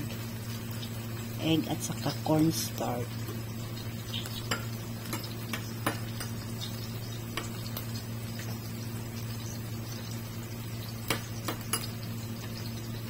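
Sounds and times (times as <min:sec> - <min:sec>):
oil popping and crackling: 0:00.0 - 0:13.0
patties sizzling in oil: 0:00.0 - 0:13.0.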